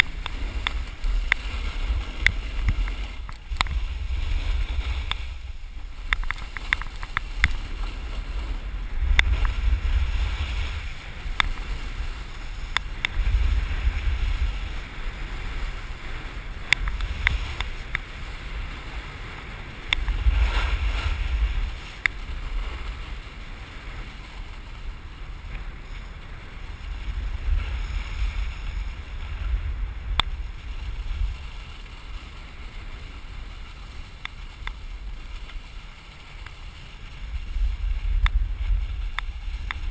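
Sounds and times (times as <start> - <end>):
snowboard sliding on snow: 0.0 - 39.9
wind buffeting microphone: 0.0 - 39.9.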